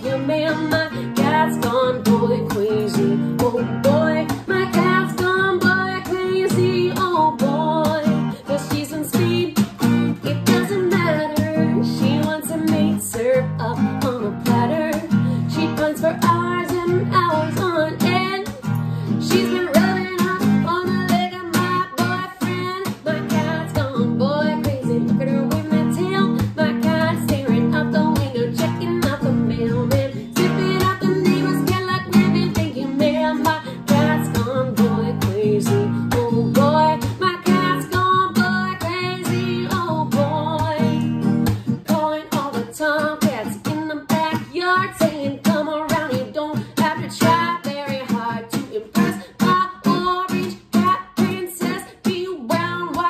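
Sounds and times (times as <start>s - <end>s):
strummed acoustic guitar: 0.0s - 53.0s
woman singing: 0.0s - 53.0s.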